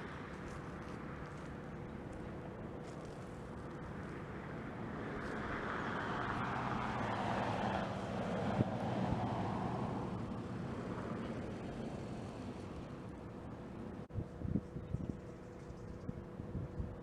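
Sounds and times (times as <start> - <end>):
vehicle passing with rushing noise: 0.0 - 14.1.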